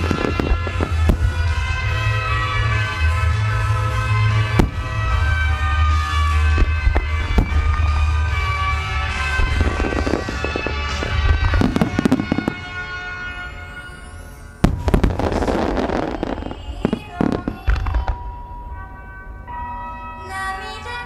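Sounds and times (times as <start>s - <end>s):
fireworks booming: 0.0s - 13.8s, 14.6s - 18.7s
fireworks crackle: 0.0s - 18.2s
music: 0.0s - 21.0s.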